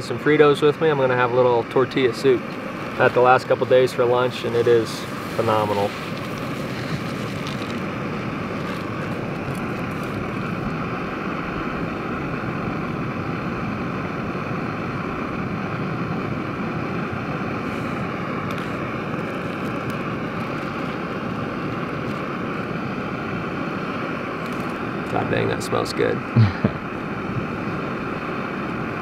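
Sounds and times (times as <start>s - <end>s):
gas stove hissing roar: 0.0s - 29.0s.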